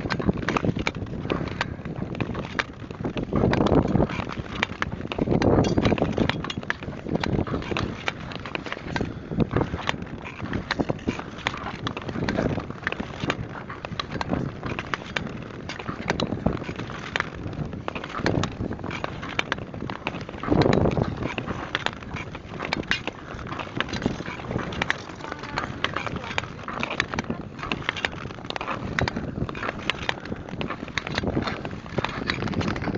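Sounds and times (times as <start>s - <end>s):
ice crackling and clicking: 0.0s - 32.9s
ice skate blades scraping: 0.0s - 32.9s.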